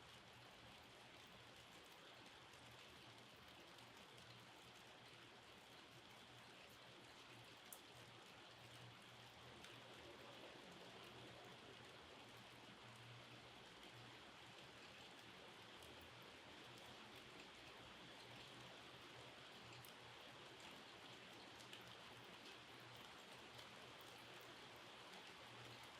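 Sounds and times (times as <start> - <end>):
light rain: 0.0 - 25.9
raindrops ticking: 0.1 - 25.9.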